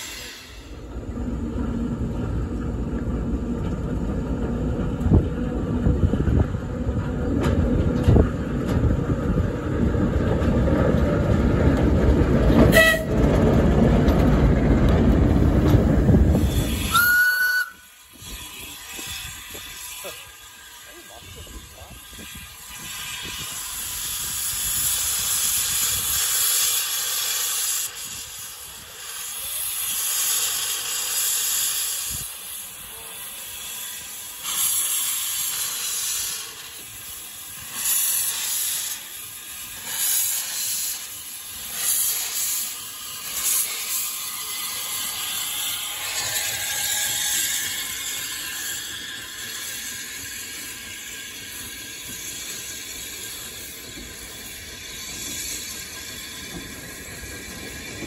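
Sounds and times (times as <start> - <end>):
steam locomotive hissing: 0.0 - 3.5, 8.2 - 58.0.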